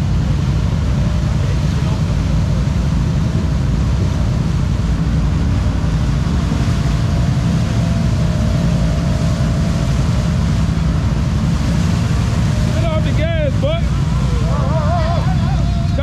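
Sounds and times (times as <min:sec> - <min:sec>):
quad engine under heavy throttle: 0:00.0 - 0:16.0
spinning tyres churning mud: 0:00.0 - 0:16.0.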